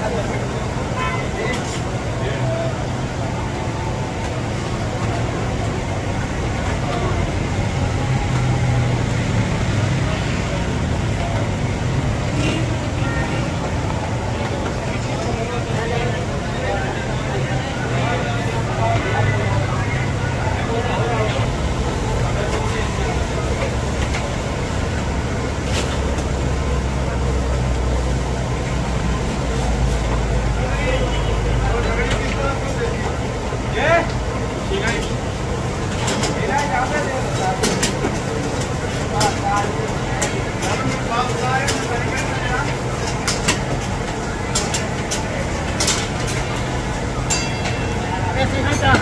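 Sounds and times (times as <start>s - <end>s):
faint voices: 0.0s - 49.0s
low rumble of street noise: 0.0s - 49.0s.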